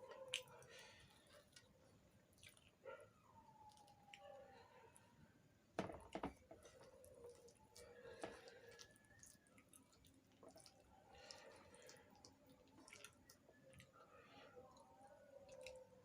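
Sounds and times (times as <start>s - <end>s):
person chewing food: 0.0s - 2.9s, 5.8s - 16.0s.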